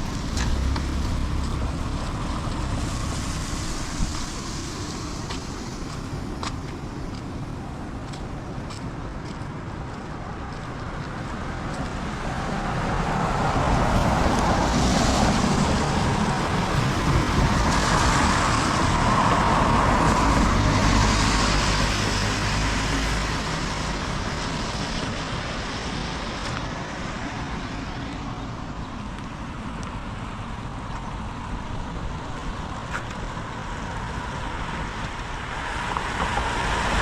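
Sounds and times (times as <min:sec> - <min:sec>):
tyres hissing on wet road: 0:00.0 - 0:08.6, 0:09.8 - 0:37.0
low car engine hum: 0:00.0 - 0:37.0.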